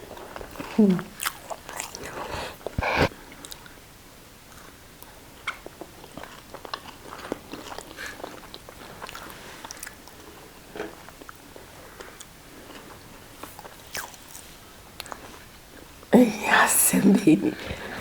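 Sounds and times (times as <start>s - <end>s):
chewing food: 0.0s - 3.8s, 4.5s - 16.0s.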